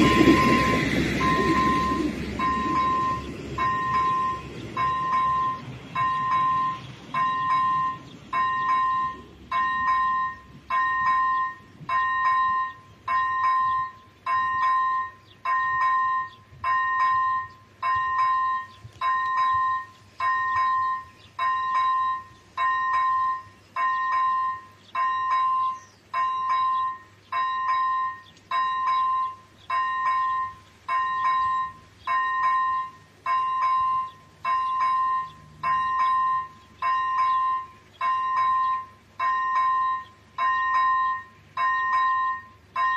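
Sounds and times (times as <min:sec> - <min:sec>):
level crossing bell ringing: 0:00.0 - 0:42.9.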